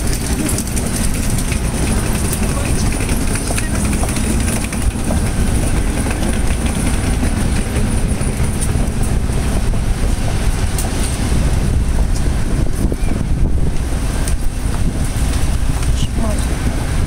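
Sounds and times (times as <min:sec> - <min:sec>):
train rumbling past: 0:00.0 - 0:17.0
wheels clicking over rail joints: 0:00.0 - 0:17.0.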